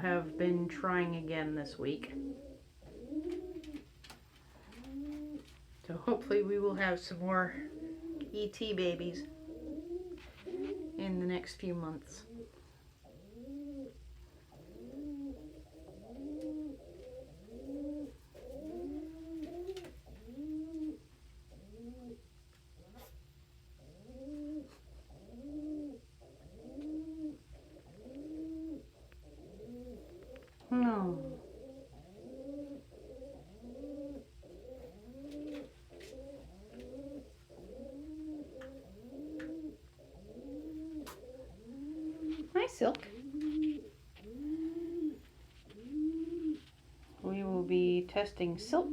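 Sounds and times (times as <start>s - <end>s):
pigeons cooing: 0.0s - 47.2s, 48.0s - 48.9s.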